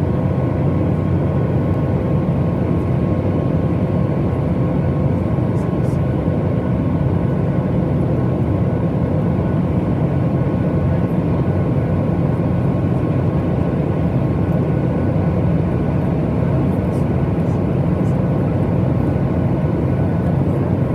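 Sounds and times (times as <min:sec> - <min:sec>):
low rush of engine and airflow: 0:00.0 - 0:20.9.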